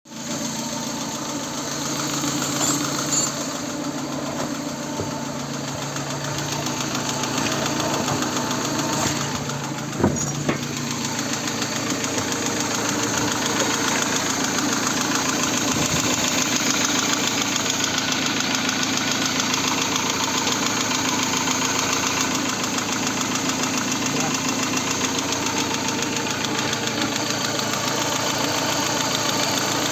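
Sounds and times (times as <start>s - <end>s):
car engine knocking: 0.1s - 29.9s.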